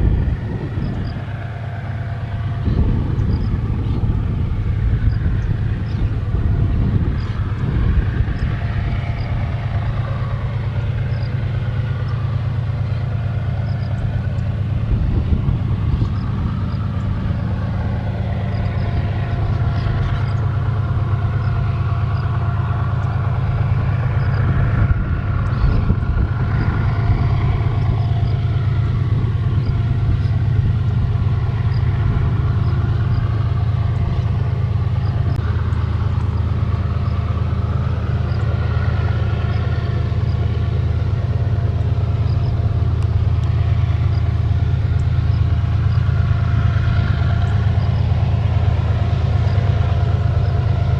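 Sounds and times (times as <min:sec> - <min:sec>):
freight train engine drone: 0:00.0 - 0:50.9.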